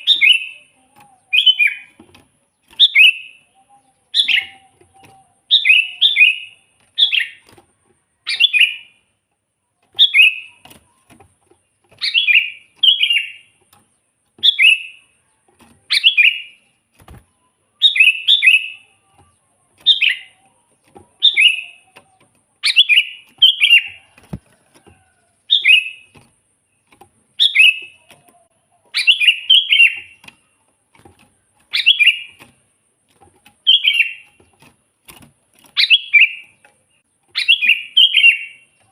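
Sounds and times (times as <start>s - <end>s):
bird singing falling notes: 0.0s - 38.9s.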